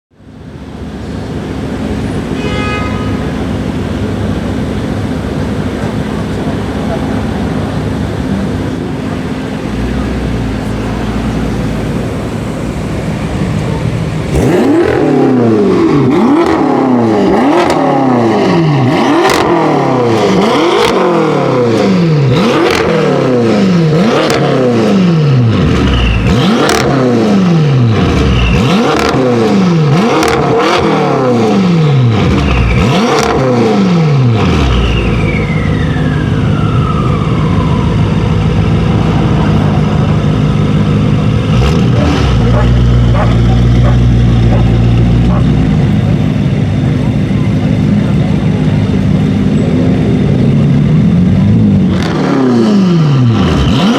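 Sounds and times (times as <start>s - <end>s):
car engine idling and revving: 0.1s - 53.9s
exhaust cracks: 3.4s - 53.9s.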